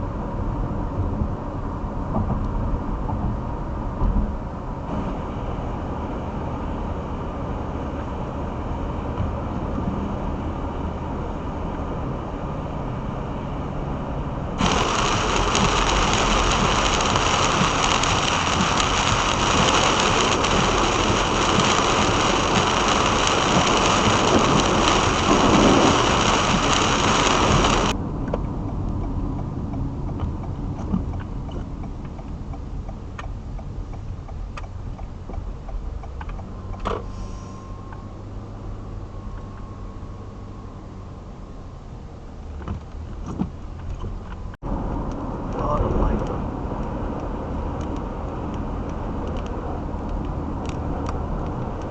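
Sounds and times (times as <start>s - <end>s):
rush of wind and rain: 0.0s - 36.7s, 41.0s - 51.9s
road and engine rumble: 0.0s - 51.9s.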